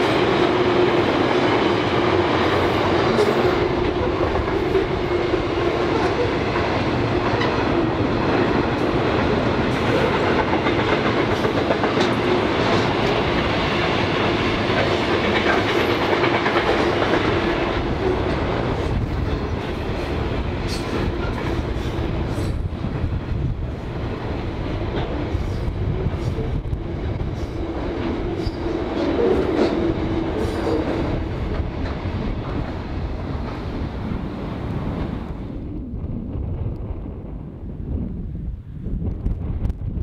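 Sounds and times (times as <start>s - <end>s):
train wheels clattering on rails: 0.0s - 35.4s.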